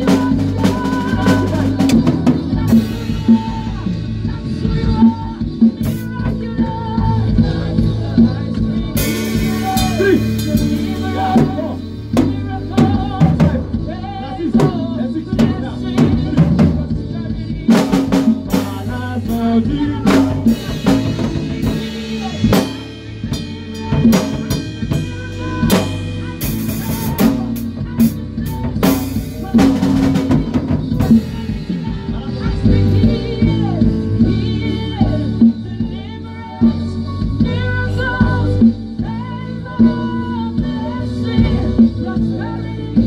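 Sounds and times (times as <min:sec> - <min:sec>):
drum kit playing: 0:00.0 - 0:43.0
sustained bass notes: 0:00.0 - 0:43.0.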